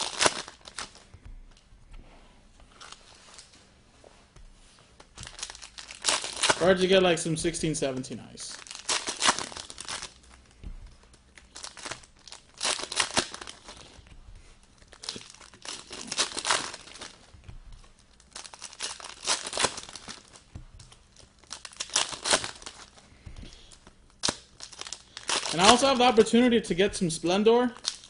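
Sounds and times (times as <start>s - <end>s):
foil wrappers tearing and crinkling: 0.0s - 1.1s, 5.1s - 26.4s, 27.7s - 28.0s.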